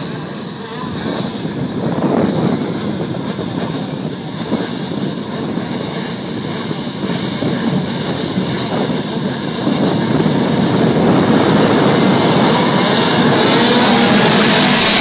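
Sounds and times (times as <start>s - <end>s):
go-kart engines droning: 0.0s - 15.0s
wind buffeting microphone: 0.0s - 15.0s.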